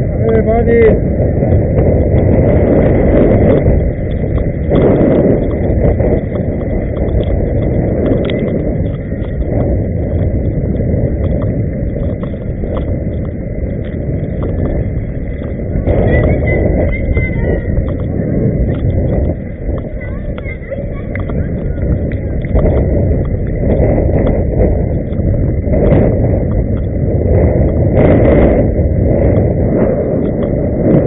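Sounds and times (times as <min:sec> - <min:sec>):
skate wheels rolling on asphalt: 0:00.0 - 0:31.0
wind noise on microphone: 0:00.0 - 0:31.0.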